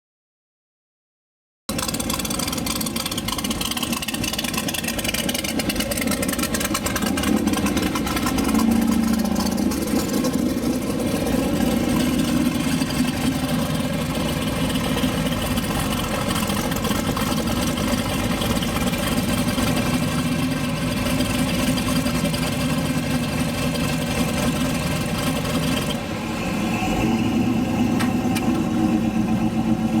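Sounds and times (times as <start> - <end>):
car engine idling through exhaust: 1.7 - 30.0.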